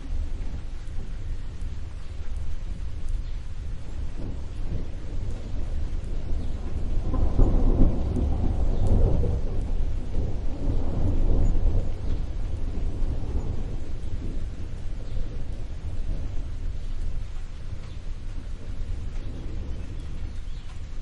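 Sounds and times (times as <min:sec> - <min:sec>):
rain hiss: 0:00.0 - 0:21.0
rolling thunder: 0:00.0 - 0:21.0.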